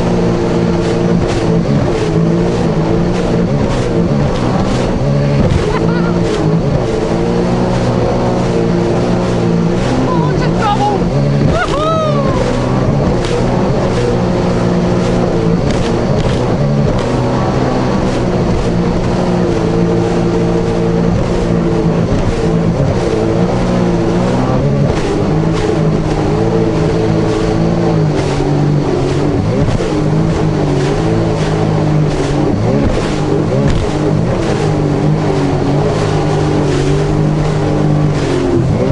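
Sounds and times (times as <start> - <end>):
jet ski engine: 0.0 - 38.9
rushing water noise: 0.0 - 38.9.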